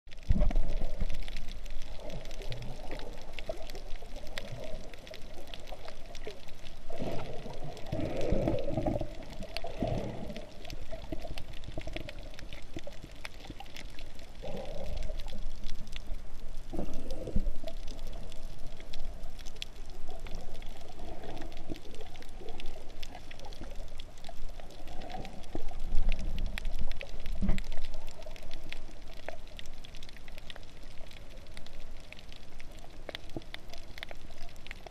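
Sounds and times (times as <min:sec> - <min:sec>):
faint clicks: 0:00.1 - 0:34.9
muffled underwater water movement: 0:00.1 - 0:34.9.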